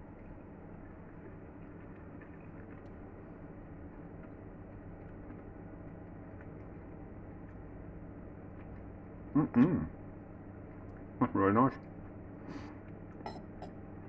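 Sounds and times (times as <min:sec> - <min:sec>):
kitchen background hum: 0:00.0 - 0:14.0.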